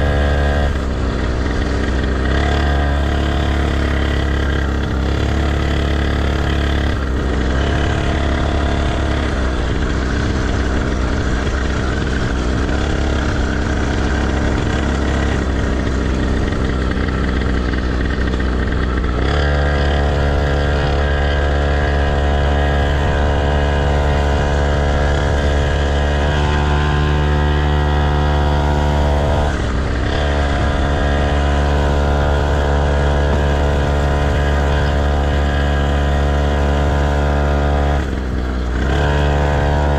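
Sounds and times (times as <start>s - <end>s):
dirt bike engines running: 0.0s - 39.9s.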